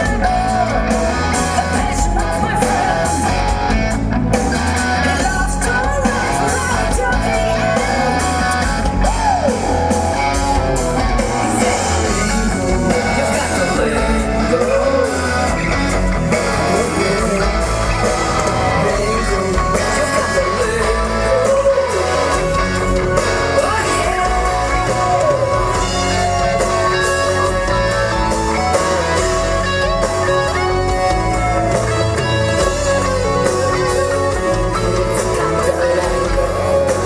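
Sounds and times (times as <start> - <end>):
lead guitar bending notes: 0.0 - 37.0
rock band playing: 0.0 - 37.0.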